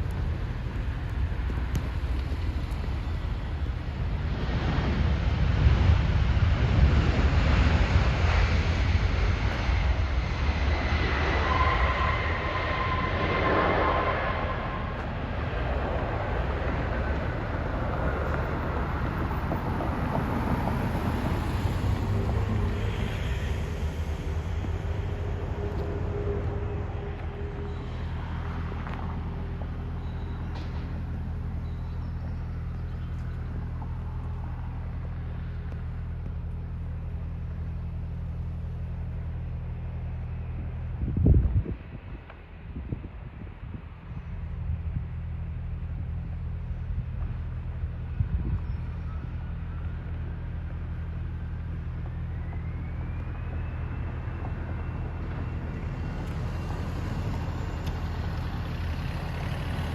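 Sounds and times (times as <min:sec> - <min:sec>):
high engine whine: 0:00.0 - 0:59.9
jet engine rumble: 0:00.0 - 0:59.9
wind buffeting microphone: 0:00.0 - 0:59.9.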